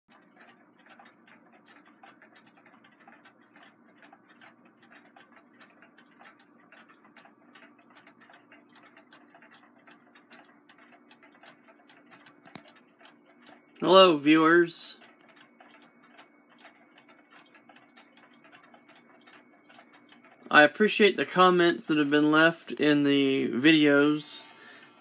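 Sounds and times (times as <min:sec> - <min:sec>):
mechanical clocks ticking: 0:00.1 - 0:25.0.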